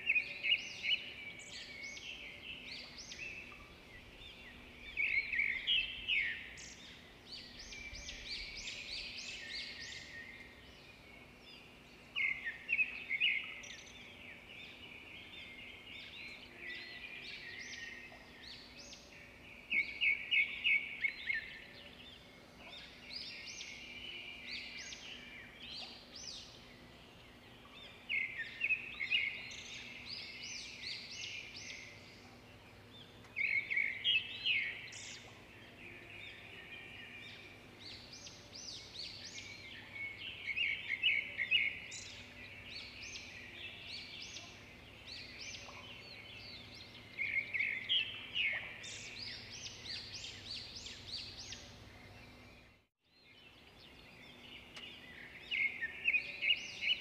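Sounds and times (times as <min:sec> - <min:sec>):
songbird chirping phrases: 0:00.0 - 0:57.0.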